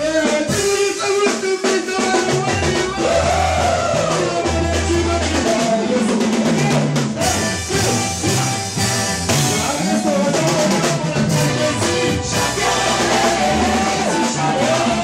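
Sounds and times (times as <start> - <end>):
drum kit: 0.0 - 15.0
upbeat worship music: 0.0 - 15.0
bass line: 1.9 - 15.0.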